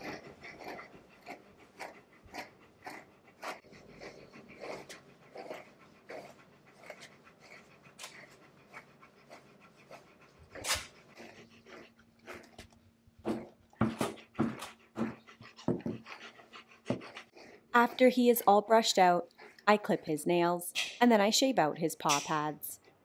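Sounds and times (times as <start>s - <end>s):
dog panting: 0.0s - 20.8s.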